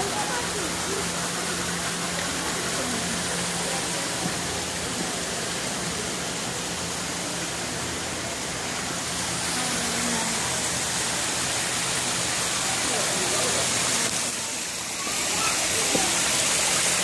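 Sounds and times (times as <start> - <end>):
waterfall splashing over rocks: 0.0 - 17.0.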